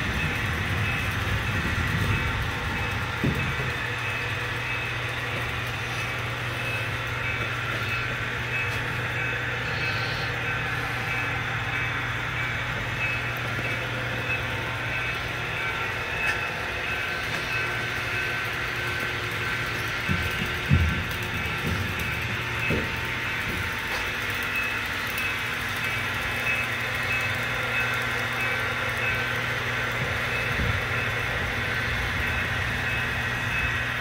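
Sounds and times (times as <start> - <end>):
model train wheels on track: 0.0 - 34.0.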